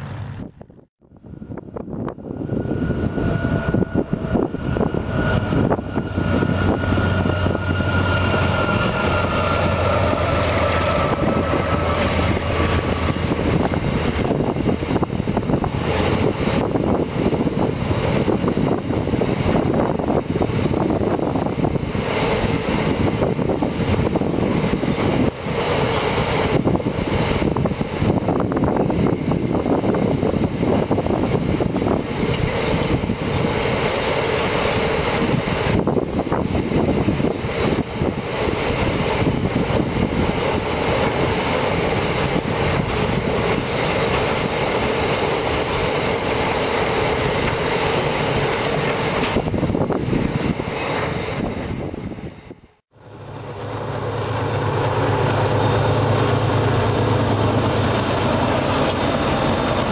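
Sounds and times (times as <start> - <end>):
diesel locomotive engines droning: 0.0 - 59.9
train wagons rumbling and clattering: 0.0 - 59.9.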